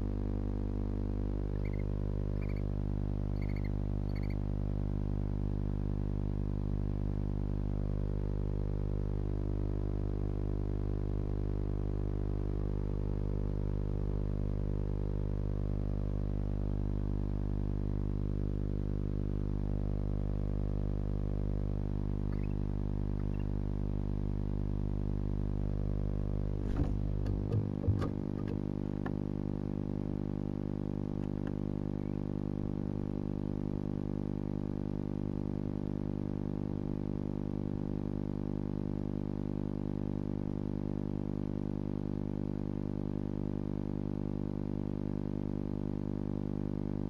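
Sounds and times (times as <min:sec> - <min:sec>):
electrical hum: 0:00.0 - 0:47.0.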